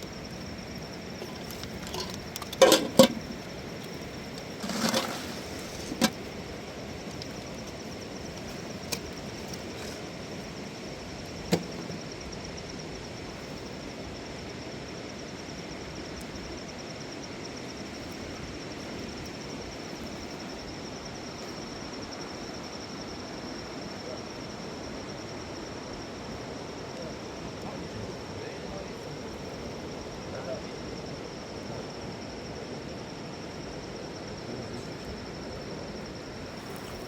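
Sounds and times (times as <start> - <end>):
insect trilling: 0.0 - 14.4, 16.0 - 37.0.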